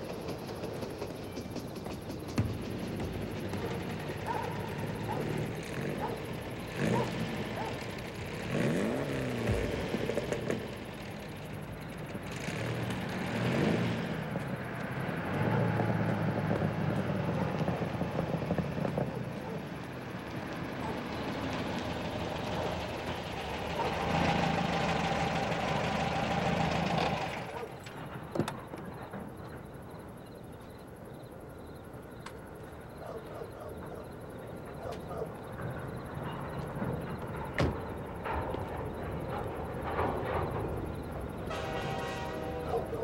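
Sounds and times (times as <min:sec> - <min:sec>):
vehicle engine humming: 0:00.0 - 0:32.9, 0:34.1 - 0:43.0.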